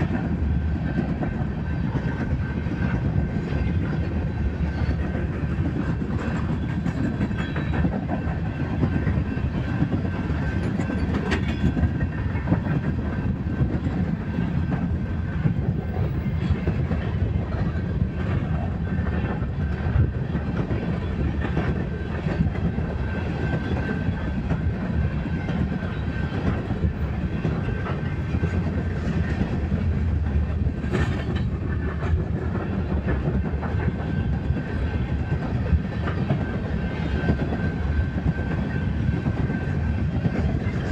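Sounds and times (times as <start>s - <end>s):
wheels clacking over rail joints: 0.0s - 24.7s, 25.3s - 36.5s
train rumbling past: 0.0s - 40.9s.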